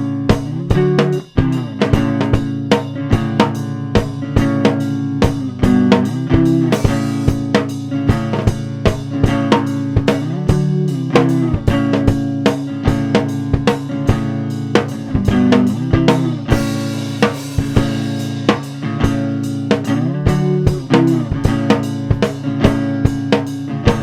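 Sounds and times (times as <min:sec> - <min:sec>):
guitar chords ringing: 0:00.0 - 0:24.0
steady drum beat: 0:00.0 - 0:24.0.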